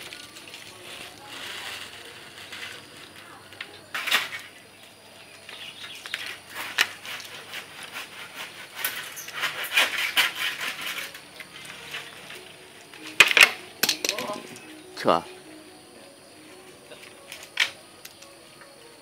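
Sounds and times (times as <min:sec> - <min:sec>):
tree branches rustling: 0:00.0 - 0:19.0.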